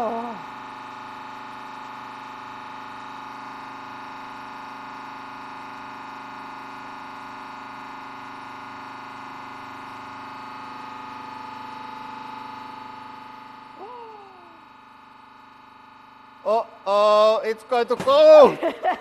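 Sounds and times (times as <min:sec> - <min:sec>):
hydraulic pump whining hum: 0:00.0 - 0:19.0.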